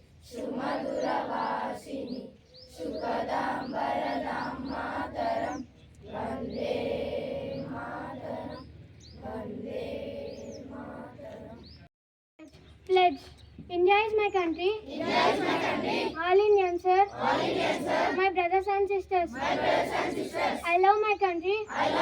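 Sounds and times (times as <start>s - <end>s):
children reciting in unison: 0.1s - 11.7s, 14.8s - 20.9s, 21.6s - 22.0s
birds chirping: 0.4s - 18.2s, 19.4s - 22.0s.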